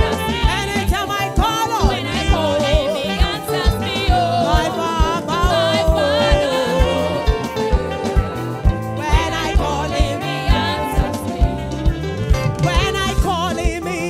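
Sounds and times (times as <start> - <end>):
band accompaniment: 0.0 - 14.0
steady drum beat: 0.0 - 14.0
woman singing gospel song: 0.0 - 14.0.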